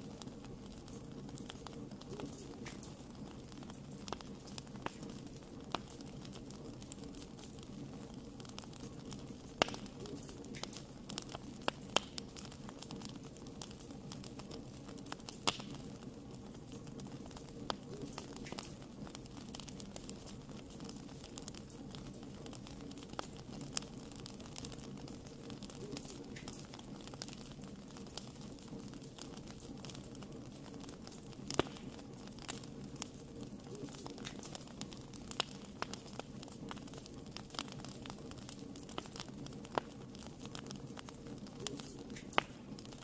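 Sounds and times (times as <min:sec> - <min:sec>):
fire crackling and popping: 0:00.0 - 0:43.0
fire flames rumbling: 0:00.0 - 0:43.0.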